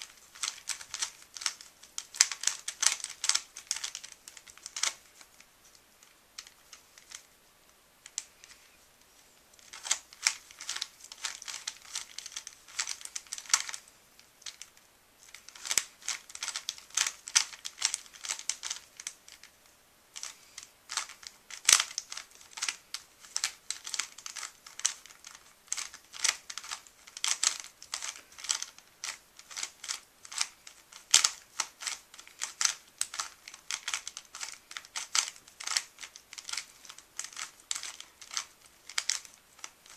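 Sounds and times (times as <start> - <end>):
puzzle cube layers clicking: 0.0 - 5.4, 9.6 - 13.8, 14.4 - 19.5, 20.2 - 39.9.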